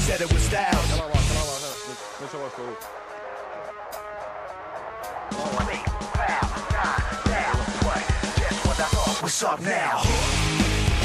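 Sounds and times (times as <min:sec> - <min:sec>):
rap-rock music: 0:00.0 - 0:11.0.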